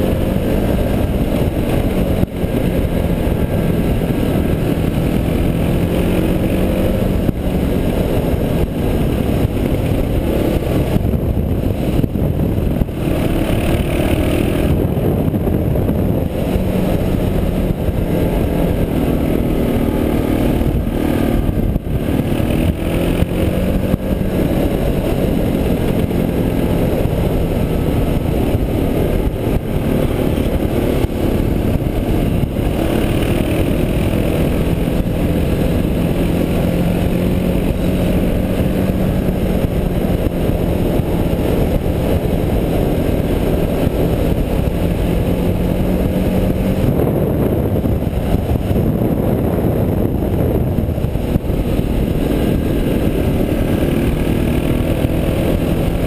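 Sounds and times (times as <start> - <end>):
motorcycle engine cruising: 0.0 - 56.0
wind rush on microphone: 0.0 - 56.0.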